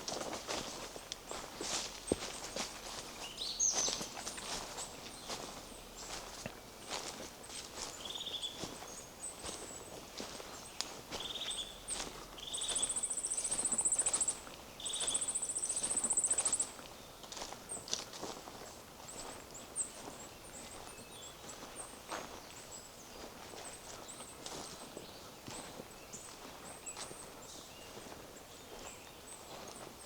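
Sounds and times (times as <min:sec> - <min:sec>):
footsteps on forest path: 0:00.0 - 0:30.0
songbird trill: 0:00.0 - 0:30.0.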